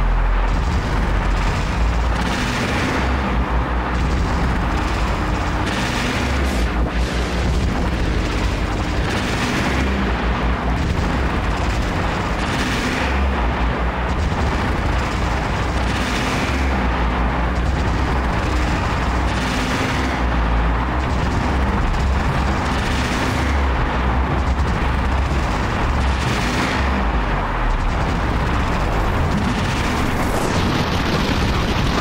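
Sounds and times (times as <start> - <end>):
glitchy industrial noise music: 0.0 - 32.0
heavy low rumble: 0.0 - 32.0.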